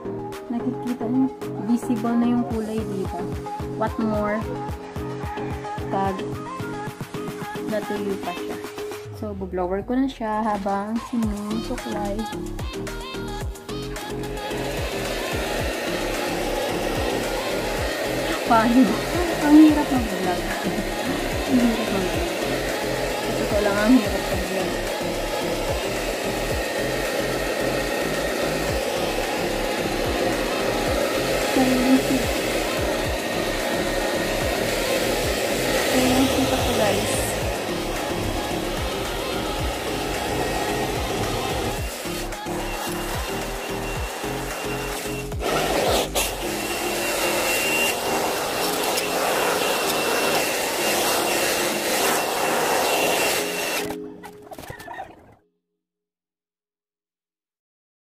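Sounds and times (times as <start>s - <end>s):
hair dryer blowing: 0.0s - 9.1s, 11.0s - 54.0s.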